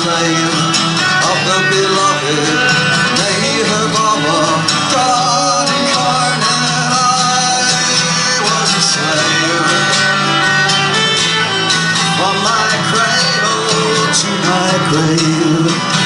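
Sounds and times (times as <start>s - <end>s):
strummed acoustic guitar: 0.0s - 16.0s
violin sliding melody: 0.7s - 14.7s.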